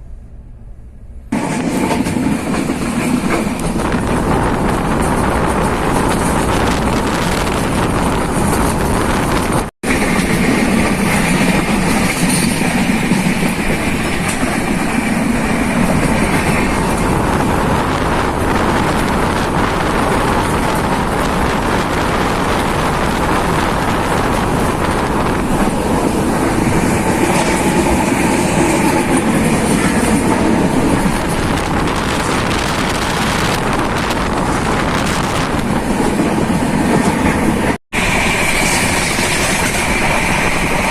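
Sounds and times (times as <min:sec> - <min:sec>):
train carriage rumbling on rails: 0:00.0 - 0:40.9.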